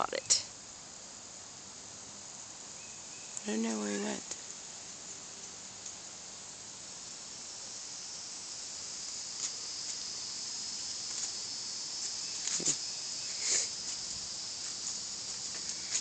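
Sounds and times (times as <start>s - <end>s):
crickets droning: 0.0s - 16.0s
short sharp insect calls: 2.3s - 16.0s.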